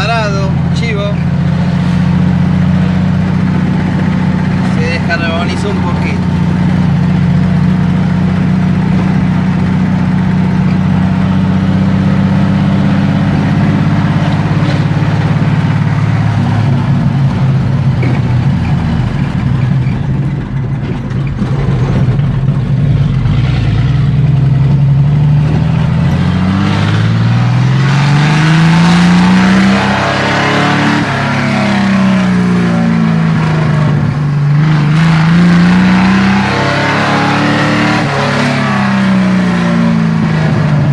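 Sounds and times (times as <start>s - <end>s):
engine running through open exhaust: 0.0s - 40.9s.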